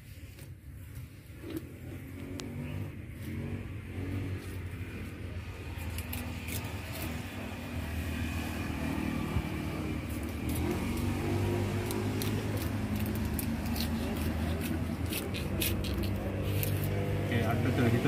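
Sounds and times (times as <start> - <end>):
motor engine running: 1.4 - 18.0.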